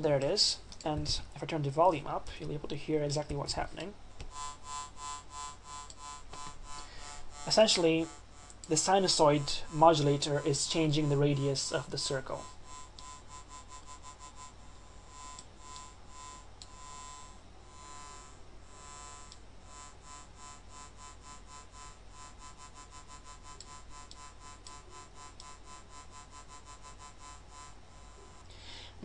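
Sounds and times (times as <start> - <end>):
pulsing buzzy synth tone: 4.3 - 28.5.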